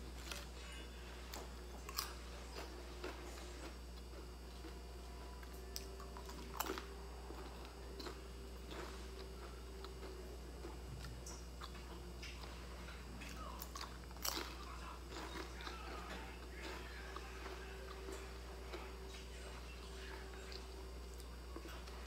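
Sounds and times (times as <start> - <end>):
crunching and chewing crispy snack: 0.0 - 22.0.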